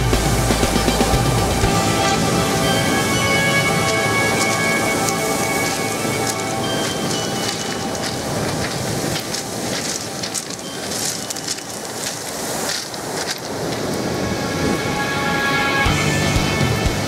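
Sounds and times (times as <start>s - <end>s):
surf washing over pebbles: 0.0s - 16.0s.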